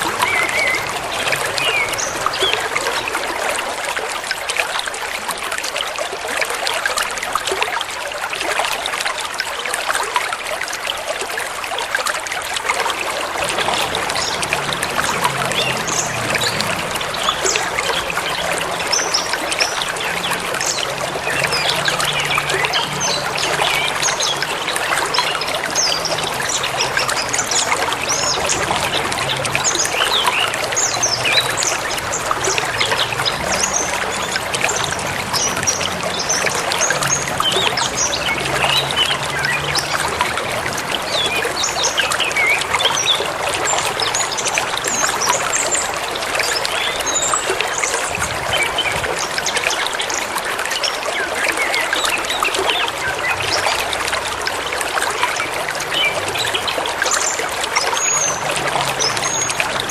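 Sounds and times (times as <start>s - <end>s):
forest river rushing: 0.0s - 59.9s.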